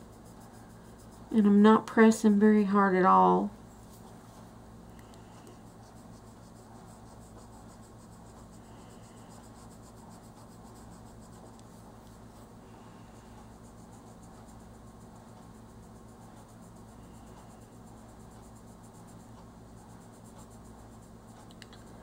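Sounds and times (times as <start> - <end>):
colored pencil scratching on paper: 0.0 - 3.0, 3.7 - 22.0
steady low hum: 0.0 - 22.0.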